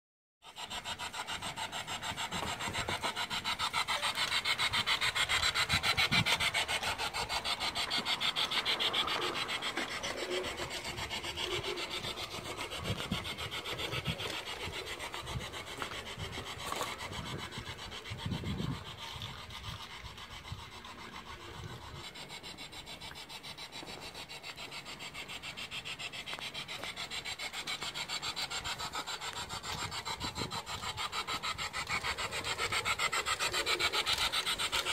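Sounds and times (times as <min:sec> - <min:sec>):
model train running on track: 0:00.4 - 0:34.9.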